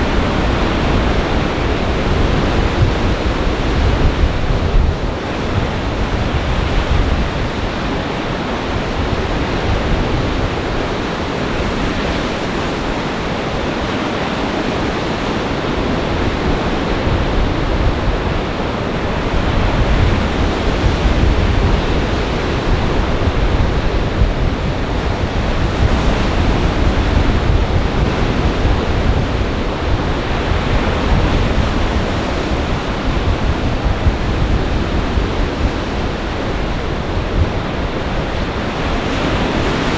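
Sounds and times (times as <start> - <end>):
waves breaking on shore: 0.0 - 39.9
wind gusting across microphone: 0.0 - 39.9.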